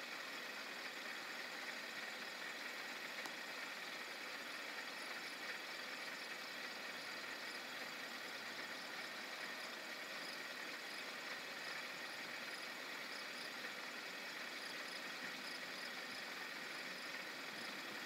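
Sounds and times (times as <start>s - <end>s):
outdoor night hiss: 0.0s - 18.0s.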